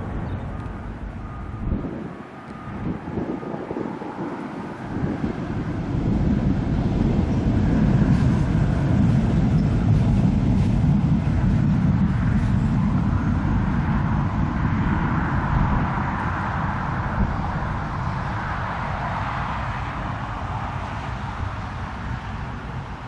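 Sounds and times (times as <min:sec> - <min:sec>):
higher engine drone: 0:00.0 - 0:23.0
turboprop engines rumbling: 0:00.0 - 0:23.0.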